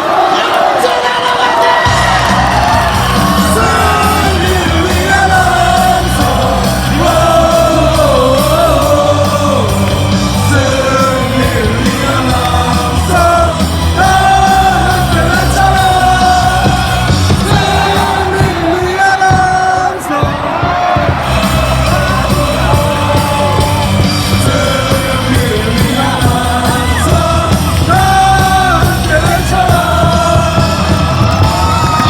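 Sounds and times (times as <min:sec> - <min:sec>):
crowd singing and yelling: 0:00.0 - 0:32.0
loud music with heavy beat: 0:01.8 - 0:32.0.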